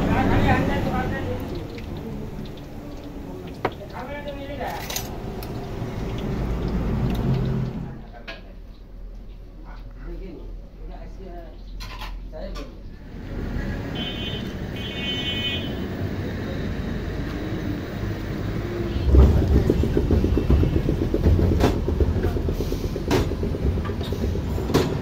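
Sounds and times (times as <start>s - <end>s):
vehicle engines running: 0.0s - 8.1s, 12.9s - 25.0s.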